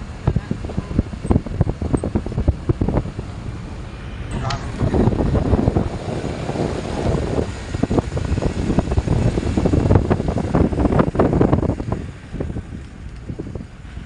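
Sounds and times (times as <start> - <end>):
loud bass-heavy audio: 0.0 - 14.0.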